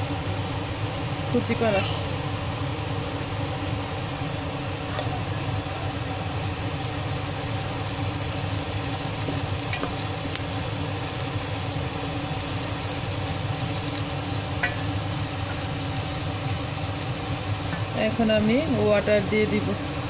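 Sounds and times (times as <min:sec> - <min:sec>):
rice sizzling and scraping: 0:00.0 - 0:04.2, 0:06.4 - 0:20.0
steady hum: 0:00.0 - 0:20.0.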